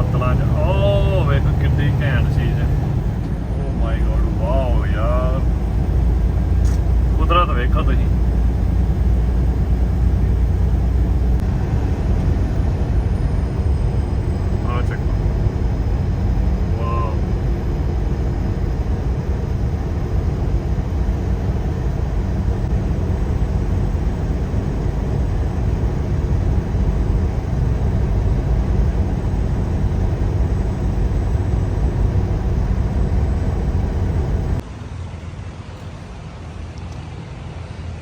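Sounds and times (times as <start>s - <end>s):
truck engine and road noise: 0.0s - 38.0s.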